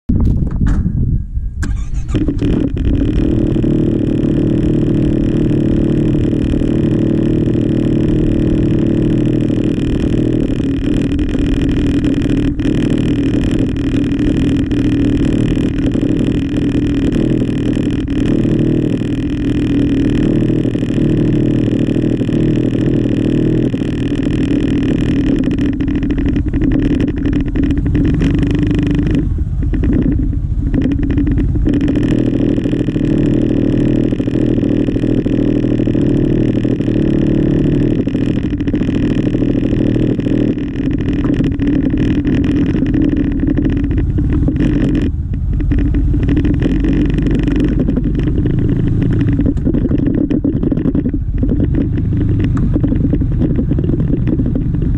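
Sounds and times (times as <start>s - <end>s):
scooter engine idling: 0.7s - 54.9s.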